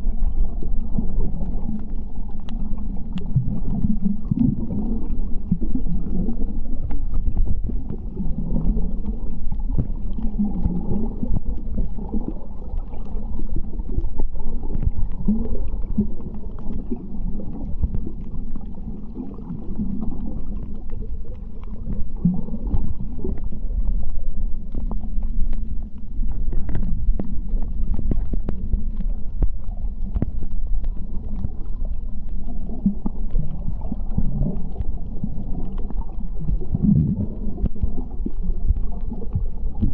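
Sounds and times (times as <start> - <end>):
underwater rumble: 0.0 - 39.9
faint clicks: 0.5 - 4.8, 8.6 - 39.9.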